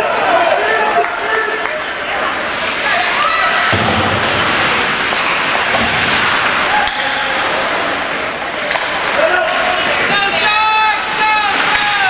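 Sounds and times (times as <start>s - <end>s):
ice hockey arena noise: 0.0s - 12.0s.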